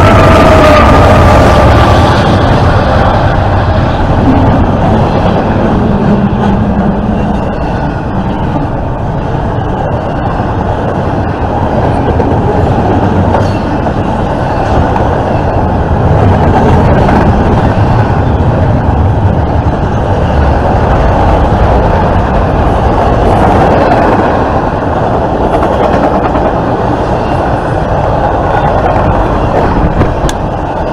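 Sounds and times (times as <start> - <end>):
freight train wheels rumbling: 0.0 - 30.9.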